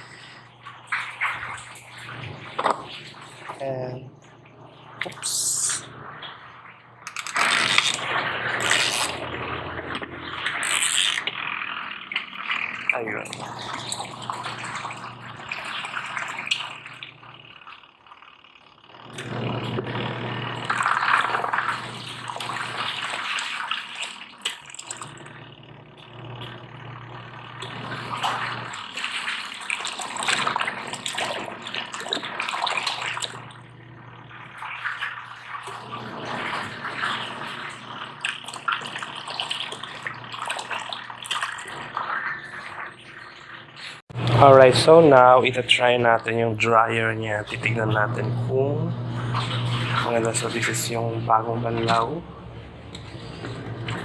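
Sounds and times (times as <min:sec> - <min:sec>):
washing machine motor hum: 0:00.0 - 0:54.0
water churning and sloshing: 0:00.0 - 0:54.0.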